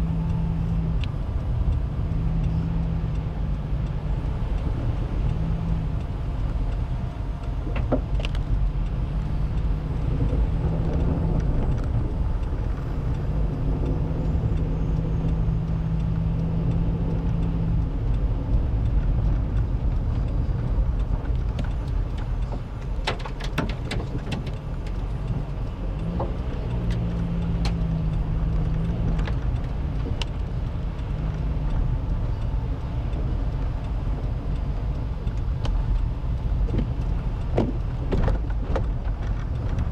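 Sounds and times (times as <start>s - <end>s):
car engine hum: 0.0s - 39.9s
tyre rumble on wet road: 0.0s - 39.9s
sharp clicks and knocks: 2.4s - 39.9s.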